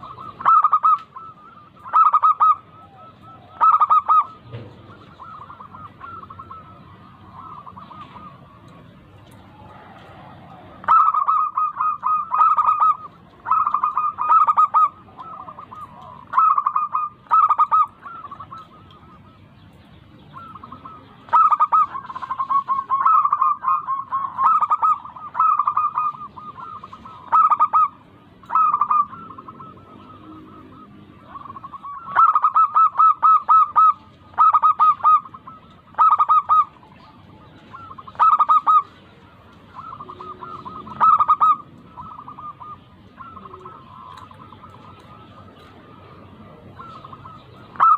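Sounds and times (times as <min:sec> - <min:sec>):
dove cooing: 0:00.0 - 0:19.4, 0:20.2 - 0:47.9.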